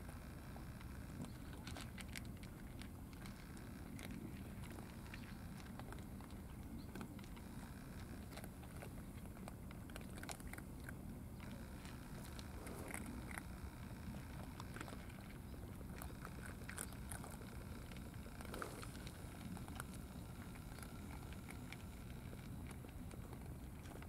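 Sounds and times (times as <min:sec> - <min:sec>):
cats crunching dry food: 0:00.0 - 0:24.0
low background rumble: 0:00.0 - 0:24.0.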